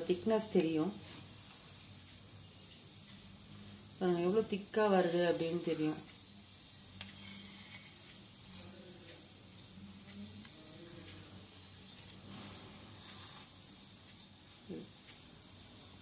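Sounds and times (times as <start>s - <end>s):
faint room tone hiss: 0.0s - 16.0s.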